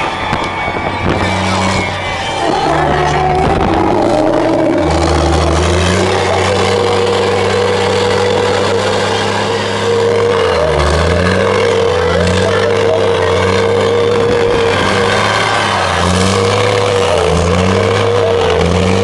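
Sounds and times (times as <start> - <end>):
truck engines running loudly: 0.0 - 19.0.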